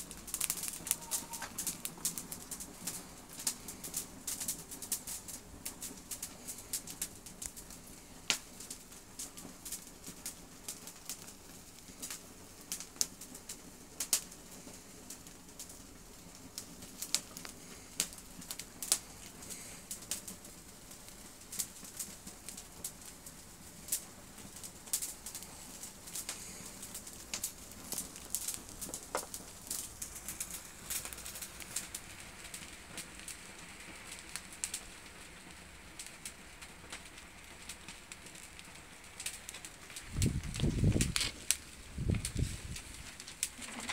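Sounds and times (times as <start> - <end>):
needles and twigs burning: 0.0 - 43.9.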